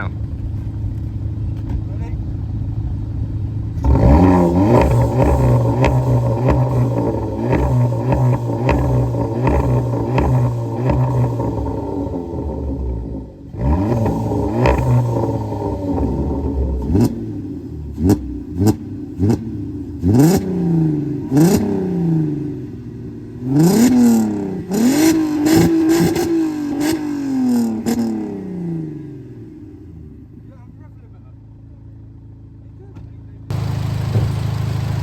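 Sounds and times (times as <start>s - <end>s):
car engine revving: 0.0s - 30.6s, 33.5s - 35.0s.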